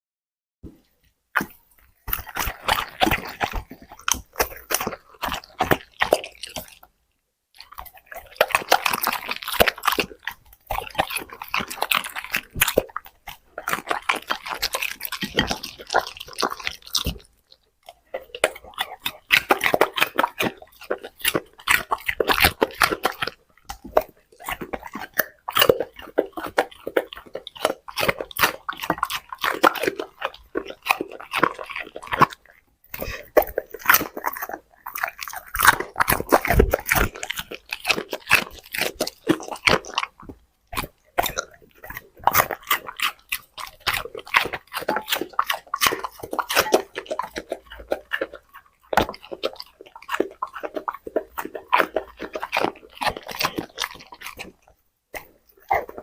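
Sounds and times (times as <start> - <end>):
dog crunching food: 0.8 - 56.0.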